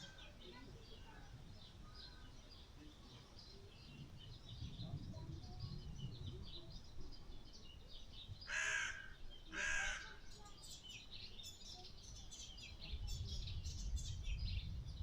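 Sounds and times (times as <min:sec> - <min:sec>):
small birds twittering: 0:00.0 - 0:15.0.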